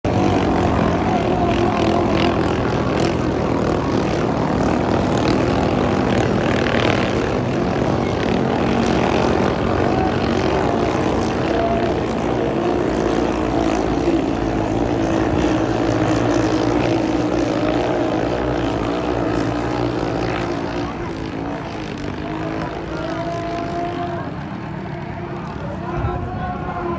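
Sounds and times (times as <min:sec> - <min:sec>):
boat engine running loud: 0:00.0 - 0:26.9.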